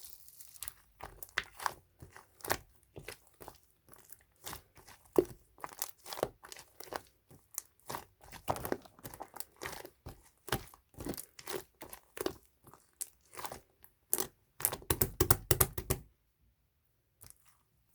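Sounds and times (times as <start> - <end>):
hands squishing slime: 0.0 - 16.1.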